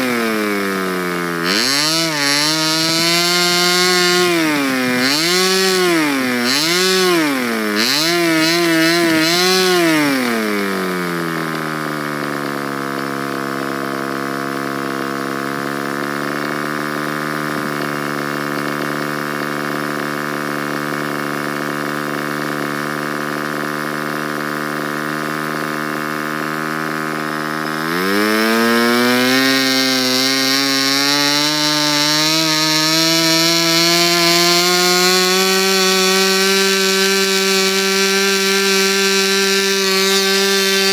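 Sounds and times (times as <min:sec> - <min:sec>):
model aero engine running: 0:00.0 - 0:40.9.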